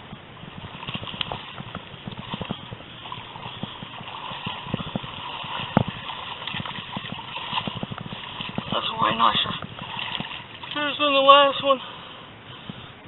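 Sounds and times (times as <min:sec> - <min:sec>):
river water over rocks: 0:00.0 - 0:13.0.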